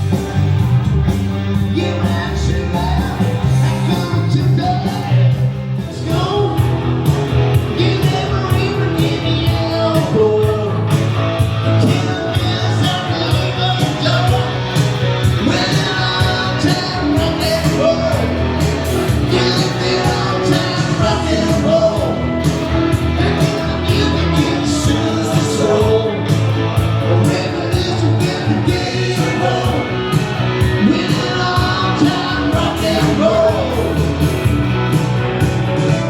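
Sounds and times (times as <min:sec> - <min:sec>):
rock and roll song with singing: 0:00.0 - 0:36.0.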